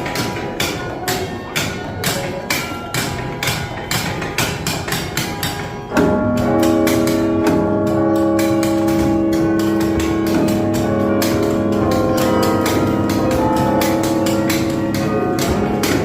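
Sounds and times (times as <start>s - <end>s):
carillon bells ringing: 0.0s - 16.0s.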